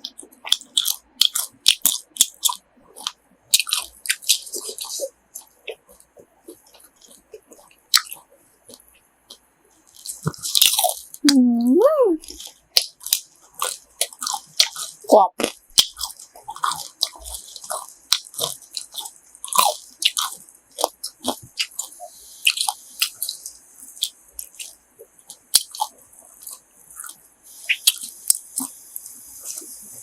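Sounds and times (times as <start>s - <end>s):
chewing crispy food: 0.0s - 11.5s, 12.2s - 30.0s.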